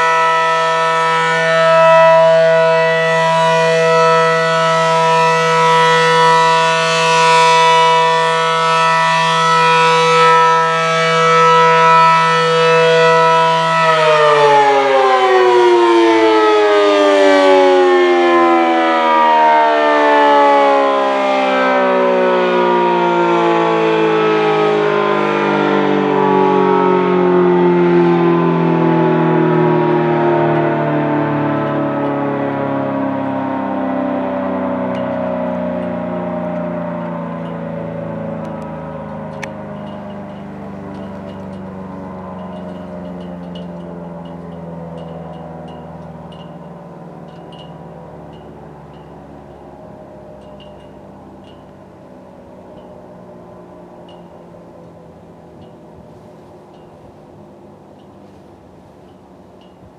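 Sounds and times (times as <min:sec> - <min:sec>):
rotating siren winding down: 0:00.0 - 0:59.9.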